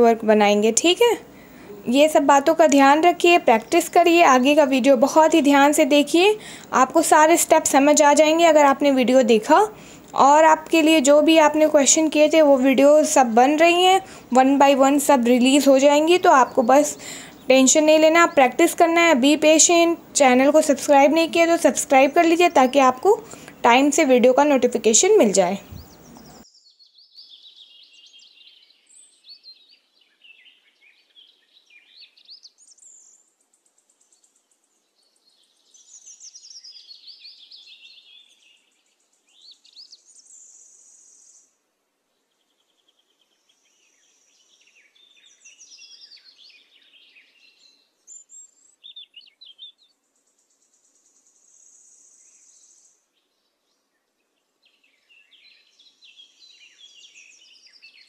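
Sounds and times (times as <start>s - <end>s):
faint birdsong chirps and trills: 0.0s - 58.0s.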